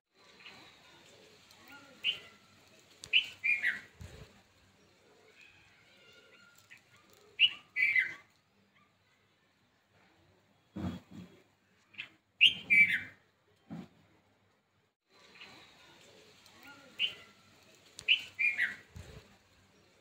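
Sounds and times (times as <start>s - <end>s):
faint outdoor background: 0.1s - 20.0s
birds chirping: 0.2s - 14.0s, 15.1s - 20.0s.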